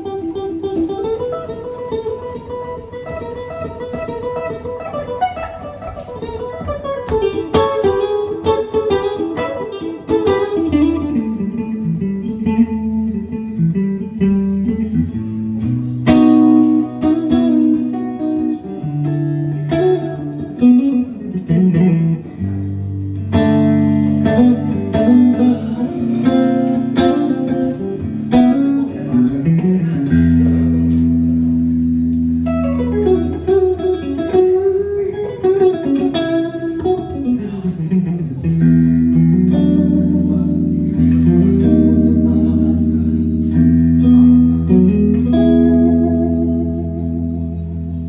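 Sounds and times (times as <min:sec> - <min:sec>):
electric guitar playing: 0:00.0 - 0:48.0.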